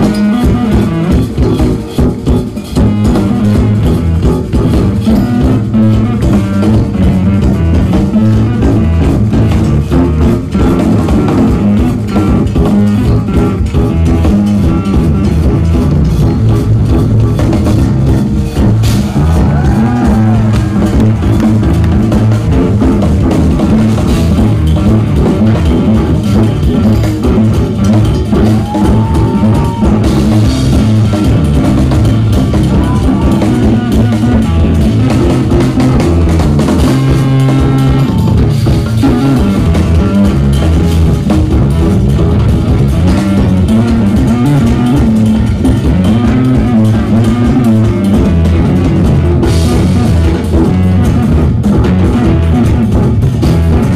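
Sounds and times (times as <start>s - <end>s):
jazz fusion band playing: 0.0s - 53.9s.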